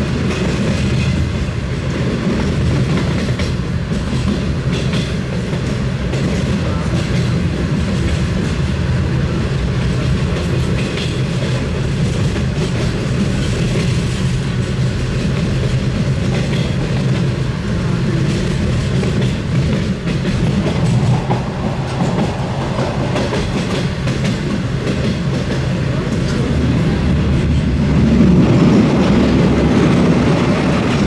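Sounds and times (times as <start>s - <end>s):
train rumbling along track: 0.0s - 31.0s.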